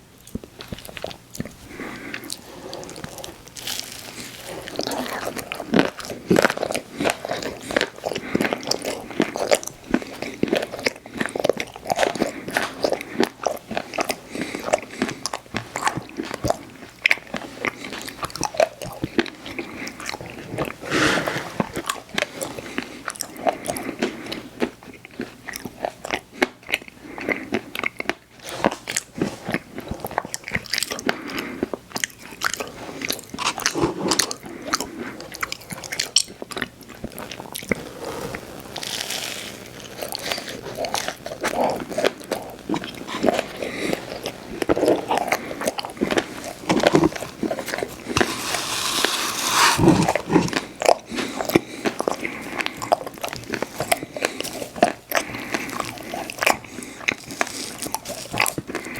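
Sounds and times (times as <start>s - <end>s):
crunching and wet chewing: 0.0s - 58.9s.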